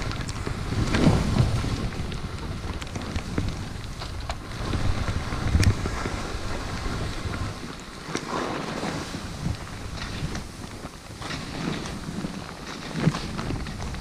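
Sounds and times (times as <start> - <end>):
skis sliding on packed snow: 0.0 - 14.0
wind buffeting microphone: 0.0 - 14.0.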